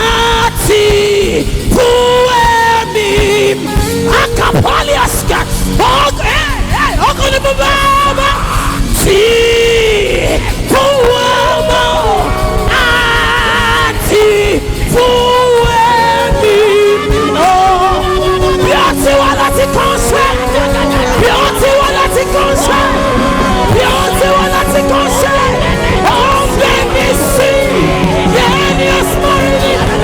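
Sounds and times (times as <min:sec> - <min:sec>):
band accompaniment: 0:00.0 - 0:30.0
person singing with vibrato: 0:00.0 - 0:30.0.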